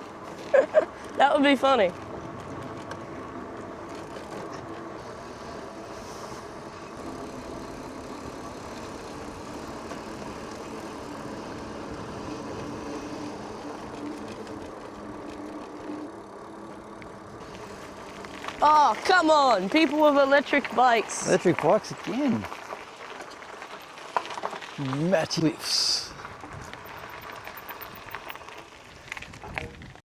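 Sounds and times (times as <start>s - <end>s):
bicycles rolling: 0.0s - 30.0s.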